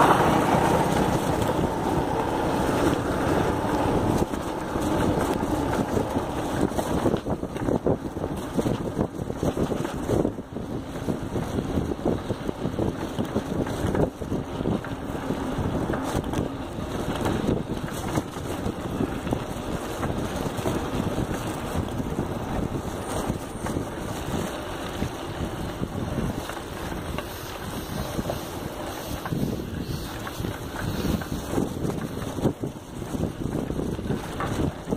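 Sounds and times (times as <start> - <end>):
bicycle rattling over bumps: 0.0 - 34.9
wind buffeting microphone: 0.0 - 34.9.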